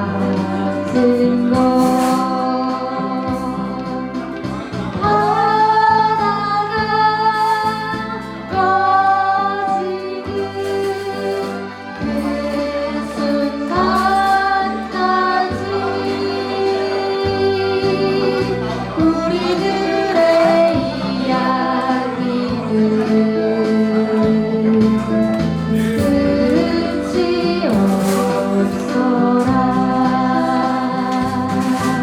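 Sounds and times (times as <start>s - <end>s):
instrumental accompaniment with bass: 0.0s - 32.0s
woman singing folk song: 0.0s - 32.0s.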